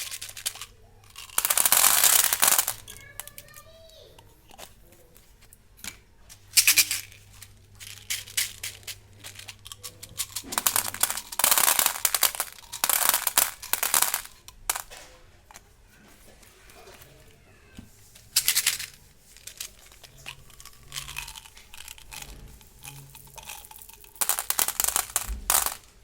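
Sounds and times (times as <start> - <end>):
plastic wrappers crinkling: 0.0 - 3.7, 4.4 - 17.4, 18.0 - 26.0.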